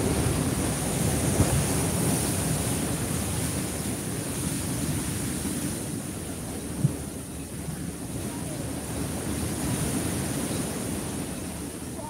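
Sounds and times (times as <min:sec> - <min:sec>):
waves washing over rocks: 0:00.0 - 0:12.0.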